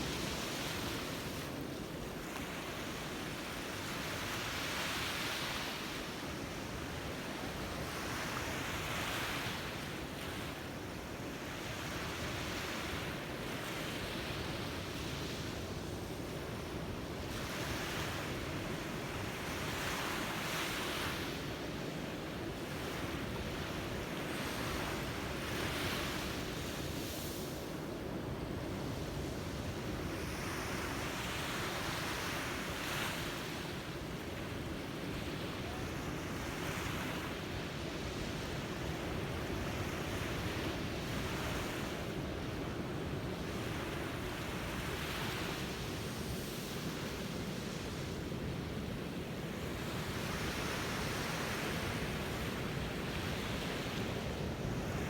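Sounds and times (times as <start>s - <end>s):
low rumble of surf: 0.0s - 55.0s
waves breaking on a beach: 0.0s - 55.0s.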